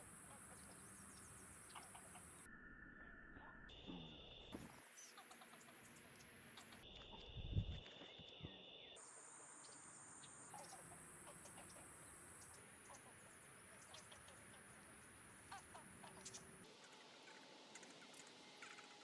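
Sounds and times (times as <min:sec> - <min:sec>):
small bird chirps: 0:00.0 - 0:07.4, 0:08.1 - 0:18.9.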